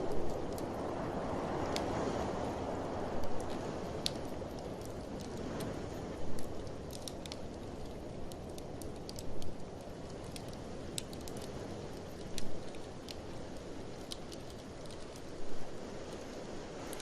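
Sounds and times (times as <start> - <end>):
blizzard wind rushing: 0.0 - 17.0
wood fire crackling: 0.0 - 17.0.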